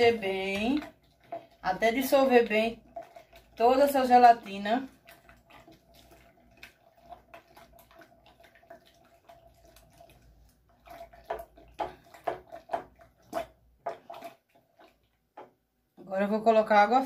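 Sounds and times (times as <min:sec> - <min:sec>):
spatula scraping and knocking jug: 0:00.0 - 0:15.6
liquid sloshing: 0:00.0 - 0:15.9.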